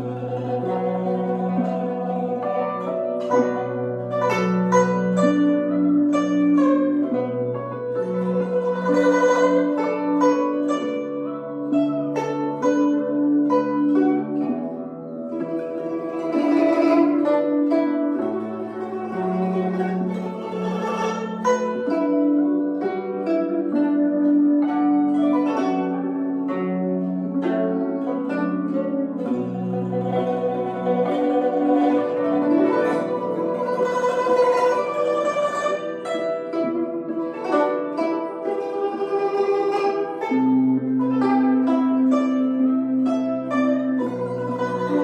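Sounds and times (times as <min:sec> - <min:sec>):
plucked zither melody: 0:00.0 - 0:45.0.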